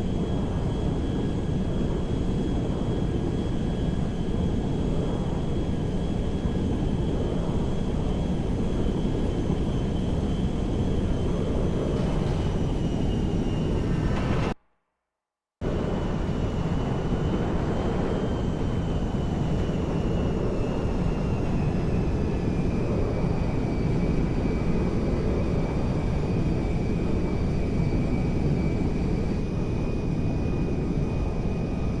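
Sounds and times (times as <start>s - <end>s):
airplane engine rumble and whine: 0.0s - 14.6s, 15.6s - 32.0s.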